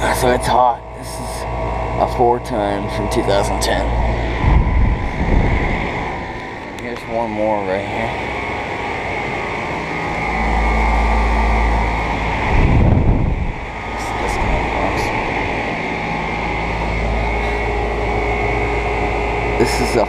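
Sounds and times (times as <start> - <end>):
air conditioner fan rushing: 0.0 - 20.0
compressor hum: 0.0 - 20.0
low rumble: 2.9 - 20.0.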